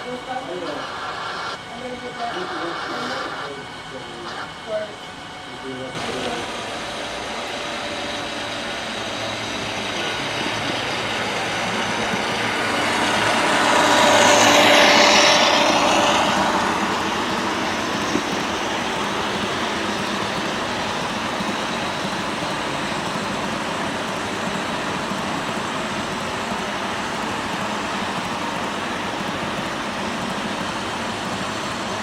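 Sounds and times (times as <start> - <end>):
model train running: 0.0 - 32.0.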